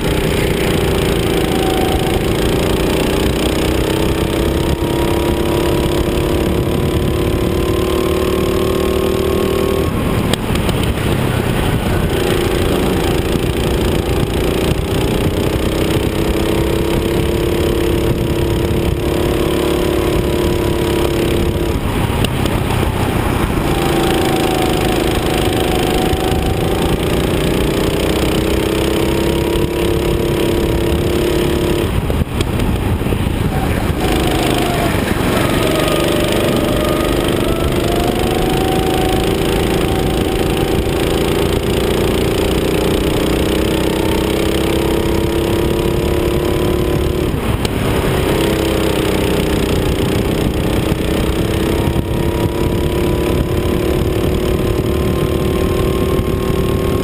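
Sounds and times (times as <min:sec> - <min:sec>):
go-kart engine running hard: 0:00.0 - 0:57.0
steady rushing noise: 0:00.0 - 0:57.0.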